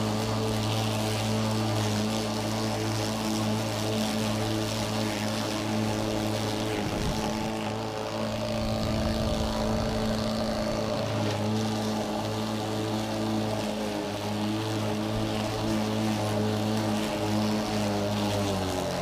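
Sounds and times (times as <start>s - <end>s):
lawn mower cutting grass: 0.0s - 19.0s.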